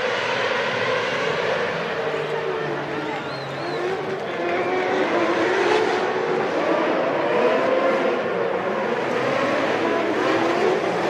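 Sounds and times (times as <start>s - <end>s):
racing car engines at high revs: 0.0s - 11.0s.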